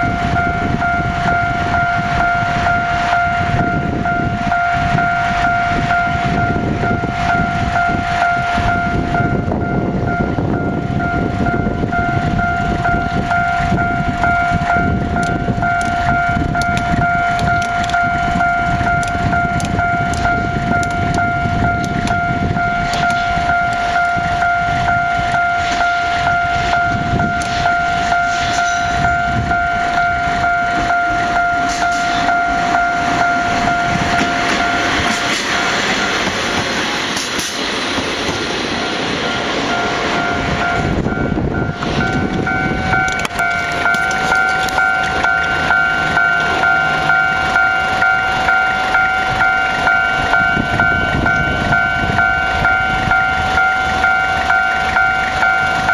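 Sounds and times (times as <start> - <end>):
freight train rumble: 0.0 - 55.9
steady high ringing tone: 0.0 - 55.9
train wheels clicking over rail joints: 0.0 - 55.9.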